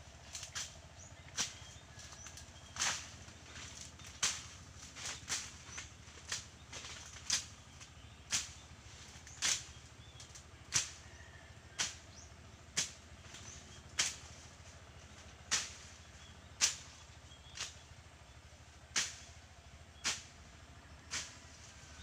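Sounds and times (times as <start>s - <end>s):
blade swishing through grass: 0.2s - 11.0s, 11.8s - 14.6s, 15.2s - 17.9s, 18.9s - 19.3s, 19.9s - 20.4s, 21.1s - 22.0s.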